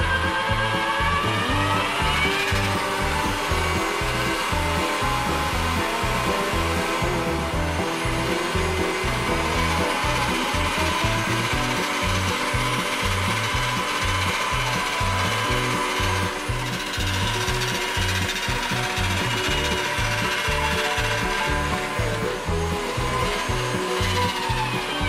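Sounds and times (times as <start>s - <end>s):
background music with bass line: 0.0s - 25.0s
electric pasta machine running: 0.0s - 25.0s.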